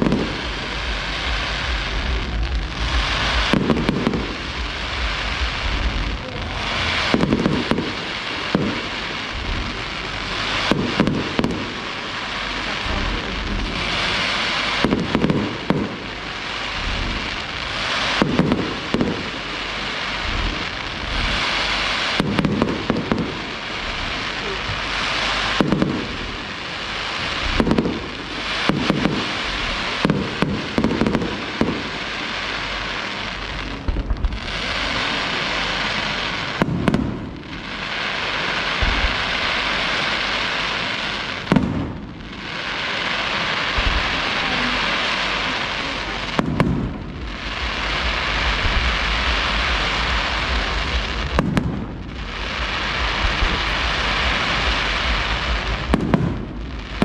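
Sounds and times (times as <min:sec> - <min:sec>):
dense crackling hiss: 0:00.0 - 0:57.0
fireworks booming: 0:00.0 - 0:57.0.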